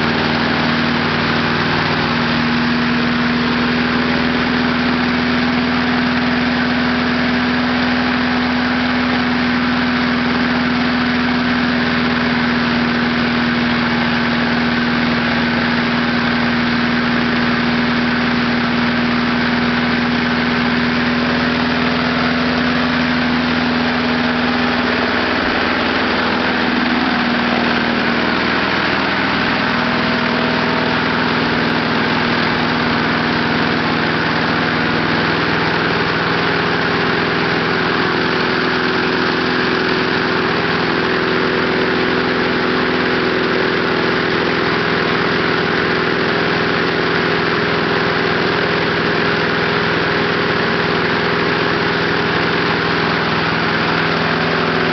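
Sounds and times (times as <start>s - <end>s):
small lawnmower engine running: 0.0s - 54.9s.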